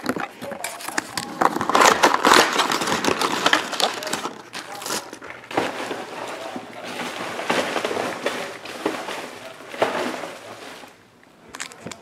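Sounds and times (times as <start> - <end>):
packaging rustling and crackling: 0.0 - 11.0.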